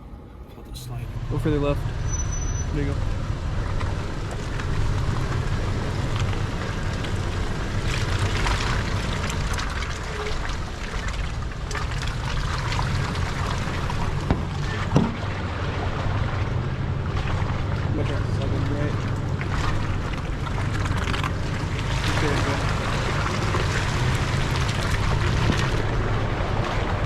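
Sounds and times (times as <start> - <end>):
engine drone: 0.0 - 27.0.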